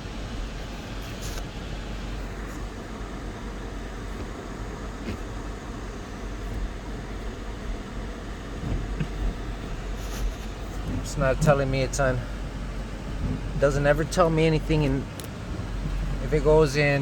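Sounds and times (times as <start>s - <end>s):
car engine idling: 0.0s - 17.0s
heater blower whoosh: 0.0s - 17.0s.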